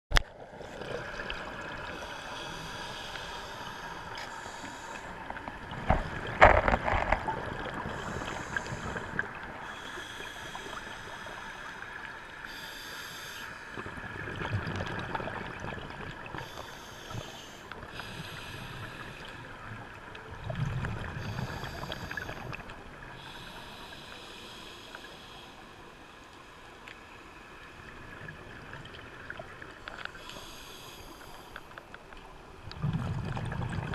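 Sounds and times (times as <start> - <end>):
low underwater hum: 0.1 - 33.9.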